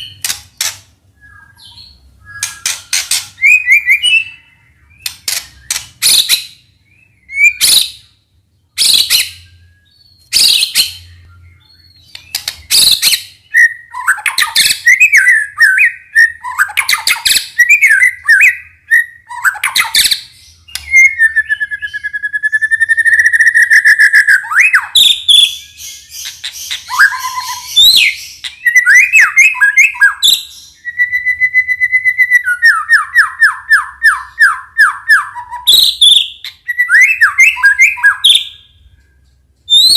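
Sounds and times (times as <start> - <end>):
bird song with whistles and trills: 0.0 - 39.9
harsh bird calls: 0.0 - 39.9.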